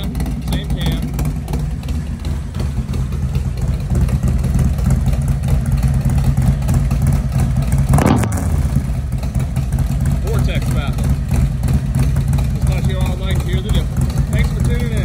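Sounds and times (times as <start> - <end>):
engine throttle blip: 0.0 - 15.0
motorcycle engine idling: 0.0 - 15.0.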